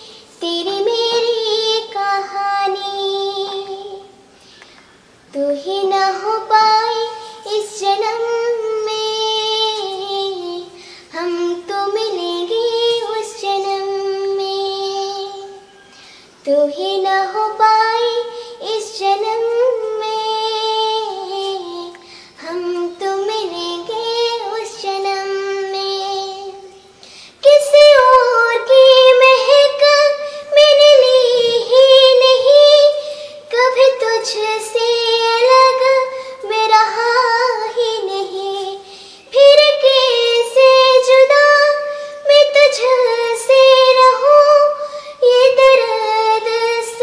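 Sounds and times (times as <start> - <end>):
girl singing: 0.0 - 47.0.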